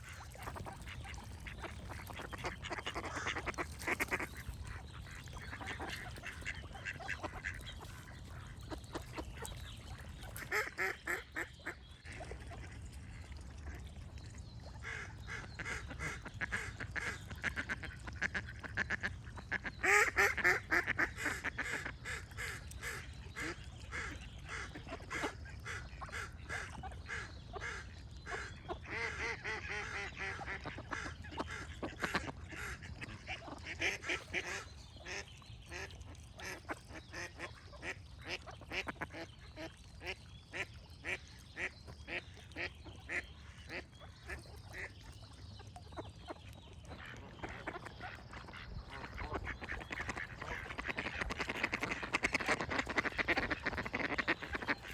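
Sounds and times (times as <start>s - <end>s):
ducks quacking: 0.0s - 13.4s, 14.8s - 45.0s, 45.8s - 54.9s.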